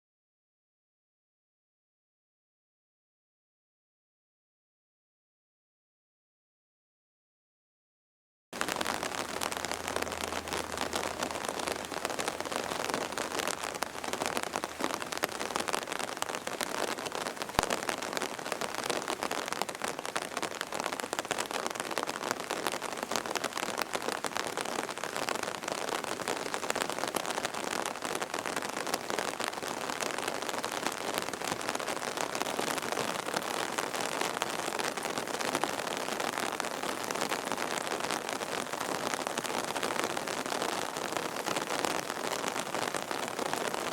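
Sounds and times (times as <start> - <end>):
heavy rain pattering: 8.6 - 43.9.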